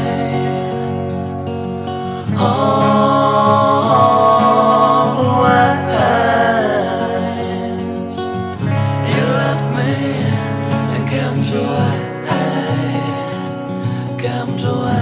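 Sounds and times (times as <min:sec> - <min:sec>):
acoustic guitar: 0:00.0 - 0:15.0
wordless sung vocal: 0:00.0 - 0:15.0.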